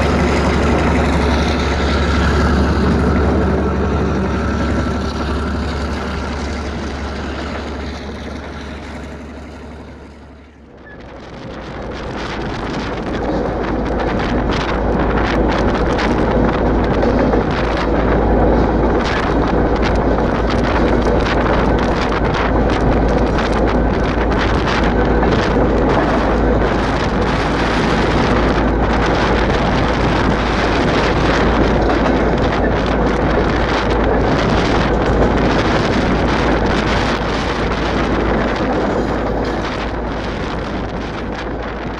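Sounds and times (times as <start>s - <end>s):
diesel locomotive engine: 0.0s - 41.9s
train rumbling over rough track: 0.0s - 41.9s
wind buffeting microphone: 0.0s - 41.9s.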